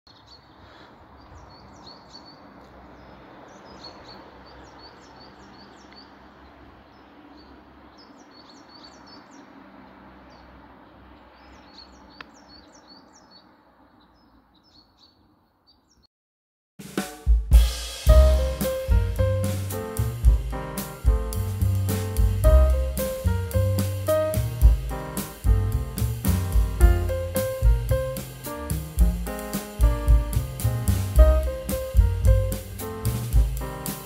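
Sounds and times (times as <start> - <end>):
outdoor background hiss: 0.1 - 16.0, 16.8 - 34.0
small birds chirping: 0.1 - 16.1, 18.1 - 34.0.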